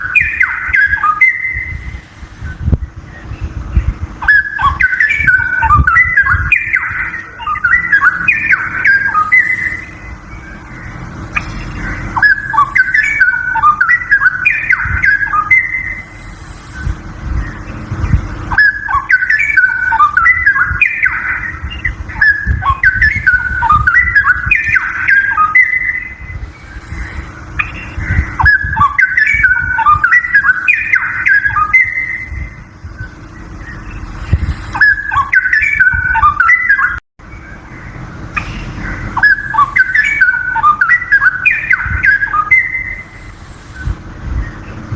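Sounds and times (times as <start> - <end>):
bird warbling song: 0.0 - 44.9.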